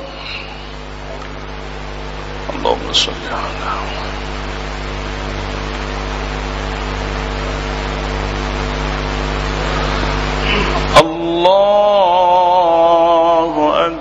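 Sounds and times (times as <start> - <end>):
low electrical hum: 0.0 - 14.0
microphone hiss: 0.0 - 14.0.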